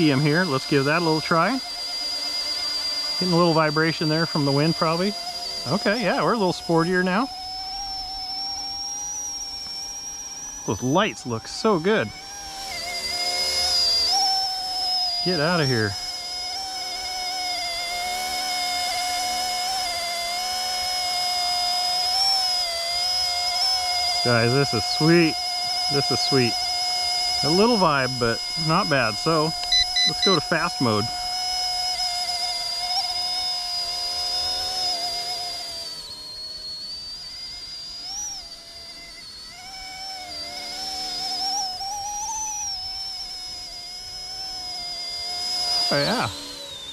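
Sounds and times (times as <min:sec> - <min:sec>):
model helicopter motors whining: 0:00.0 - 0:46.9.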